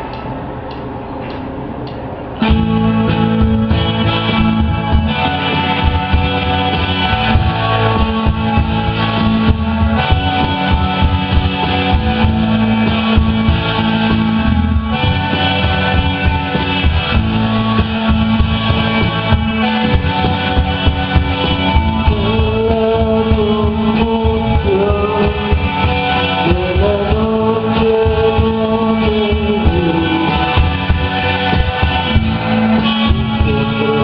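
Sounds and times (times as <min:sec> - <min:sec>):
live rock band: 0:02.4 - 0:34.0
wavering guitar melody: 0:02.4 - 0:34.0.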